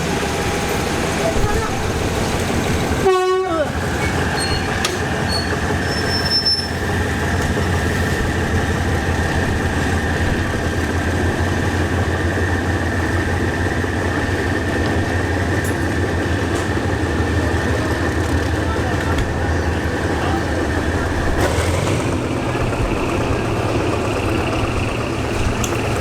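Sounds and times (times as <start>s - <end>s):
diesel train engine idling: 0.0s - 26.0s.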